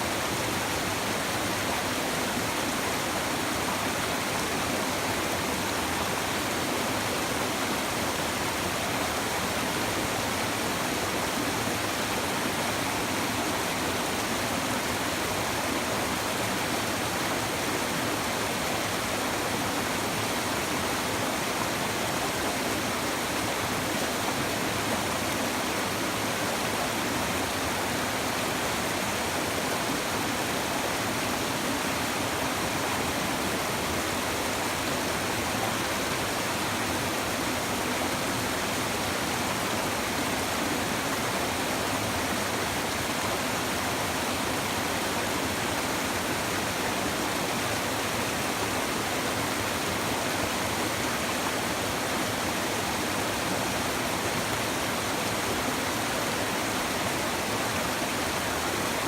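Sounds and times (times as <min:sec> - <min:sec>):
shallow river babbling: 0:00.0 - 0:59.0.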